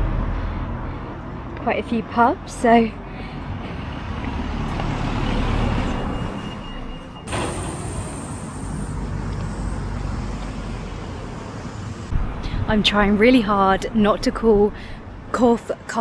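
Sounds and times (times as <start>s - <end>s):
motor vehicle passing: 0.0s - 15.6s
steady traffic noise: 0.0s - 16.0s.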